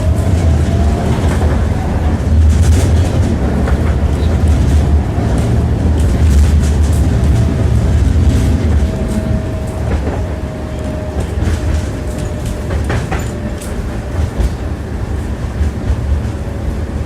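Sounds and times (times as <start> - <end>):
tram wheels clattering over joints: 0.0 - 17.0.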